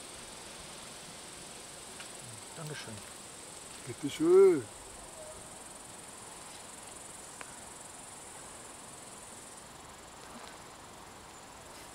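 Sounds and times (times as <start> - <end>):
crickets chirring: 0.0 - 11.9.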